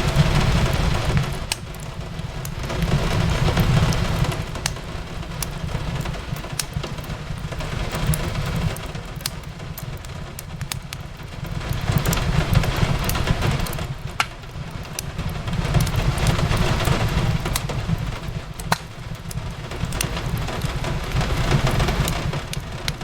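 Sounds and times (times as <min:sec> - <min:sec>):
rain on a window: 0:00.0 - 0:23.0
wood fire crackling: 0:00.0 - 0:23.0.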